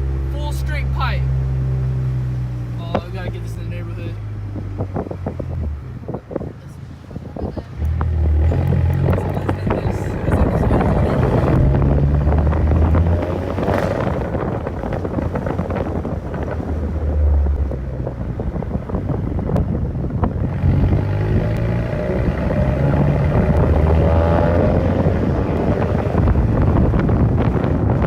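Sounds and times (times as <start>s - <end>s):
car exhaust drone: 0.0s - 6.6s, 7.3s - 28.0s.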